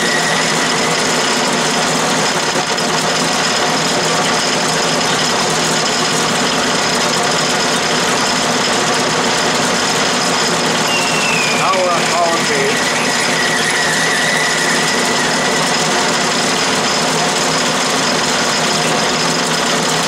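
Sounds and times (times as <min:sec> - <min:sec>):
lathe running with steady drone: 0:00.0 - 0:20.0.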